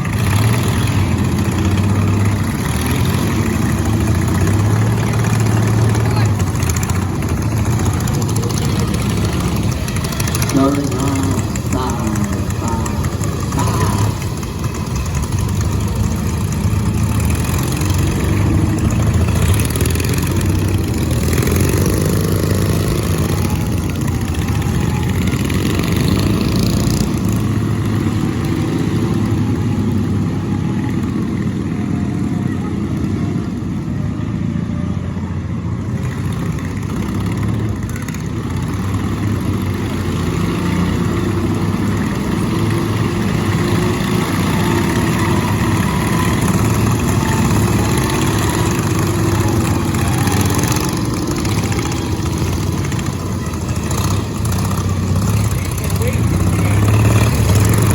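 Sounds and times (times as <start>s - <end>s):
lawn mower engines running: 0.0s - 57.9s.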